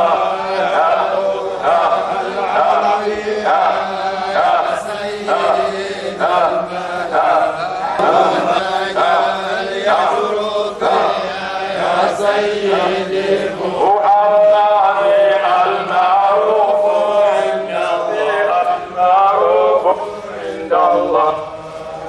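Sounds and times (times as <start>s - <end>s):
men chanting together: 0.0s - 21.4s.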